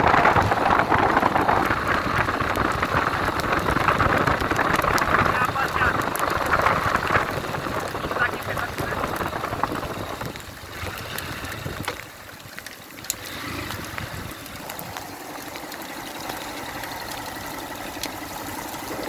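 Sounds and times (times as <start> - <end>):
motorcycle engine running slowly: 0.0 - 19.0
rain and water noise: 0.0 - 19.0
raindrop clicks: 0.0 - 19.0.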